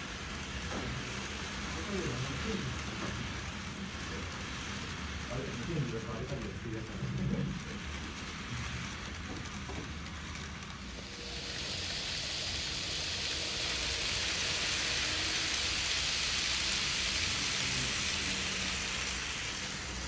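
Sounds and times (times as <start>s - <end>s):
model train rolling on track: 0.0s - 20.0s.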